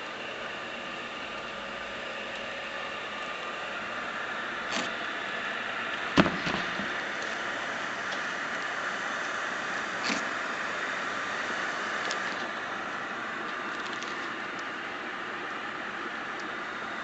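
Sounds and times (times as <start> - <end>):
heat sealer machine humming: 0.0 - 17.0.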